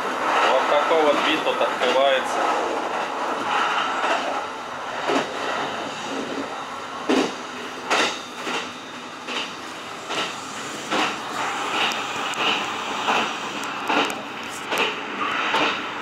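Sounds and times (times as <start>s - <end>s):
train rolling rumble: 0.0s - 16.0s.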